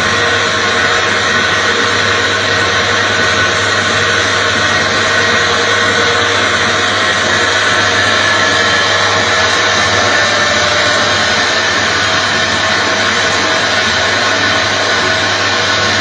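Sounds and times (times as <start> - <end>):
machine motor whirring: 0.0 - 16.0.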